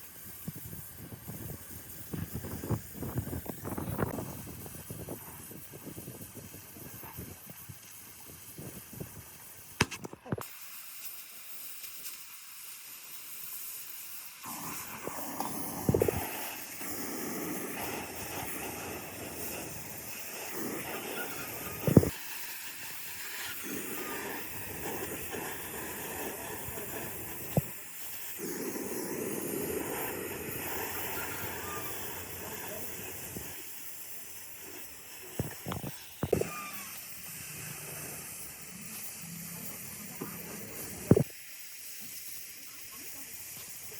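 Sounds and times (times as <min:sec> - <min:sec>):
hiss: 0:00.0 - 0:43.9.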